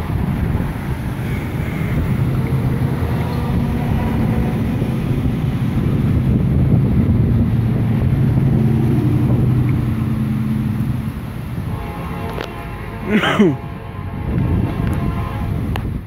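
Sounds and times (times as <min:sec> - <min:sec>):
engine hum: 0:00.0 - 0:16.0
road traffic rumble: 0:00.0 - 0:16.0
wind buffeting microphone: 0:00.0 - 0:16.0.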